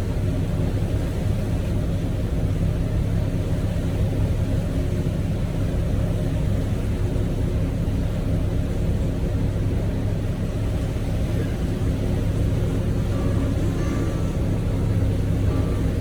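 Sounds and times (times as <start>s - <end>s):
motorboat engine running: 0.3s - 16.0s.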